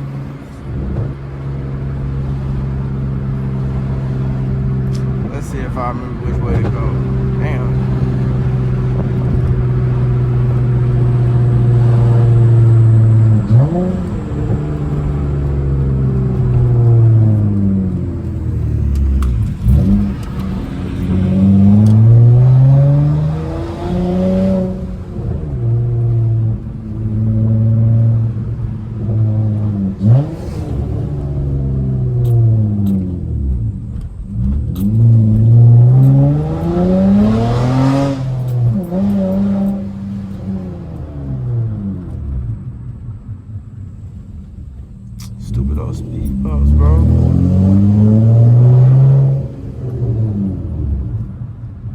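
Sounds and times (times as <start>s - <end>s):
loud car engine revving: 0.0s - 42.8s, 45.1s - 51.9s.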